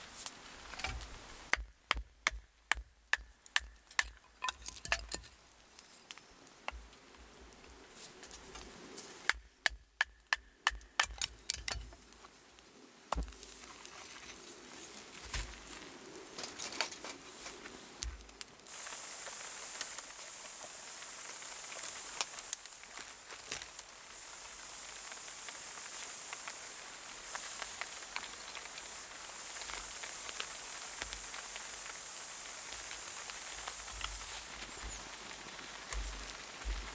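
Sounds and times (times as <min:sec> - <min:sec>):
steady high hiss: 0:00.0 - 0:01.6, 0:03.8 - 0:09.4, 0:11.1 - 0:36.9.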